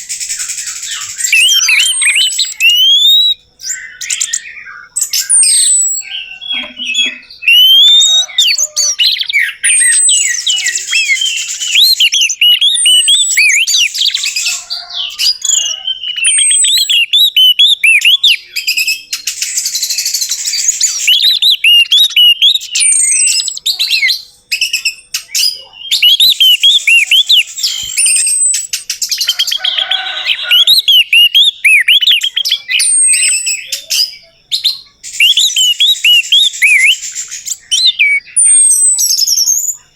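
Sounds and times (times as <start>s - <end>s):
thrush singing chirps and whistles: 0.0s - 39.9s.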